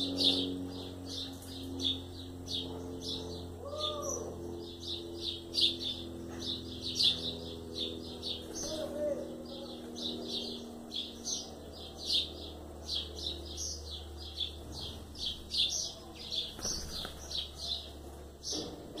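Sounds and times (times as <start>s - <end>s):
bird chirping: 0.0s - 19.0s
faint low hum: 0.0s - 19.0s.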